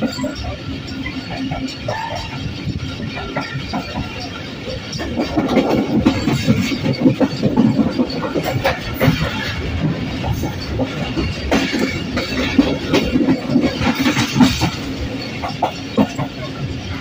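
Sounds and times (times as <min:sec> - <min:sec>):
train wheels clattering over track: 0:00.0 - 0:17.0.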